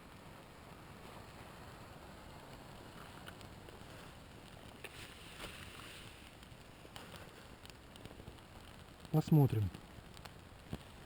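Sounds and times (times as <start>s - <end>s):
campfire rushing: 0.0s - 11.0s
fire crackling and popping: 0.0s - 11.0s.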